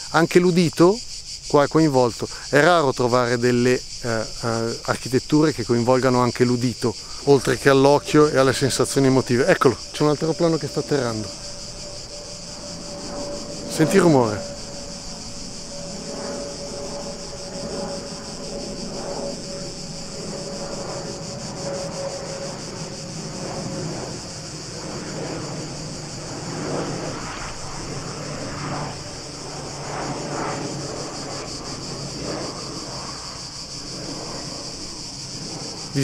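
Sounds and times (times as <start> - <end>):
aeroplane rumbling overhead: 0.0 - 36.0
insects chirring: 0.0 - 36.0.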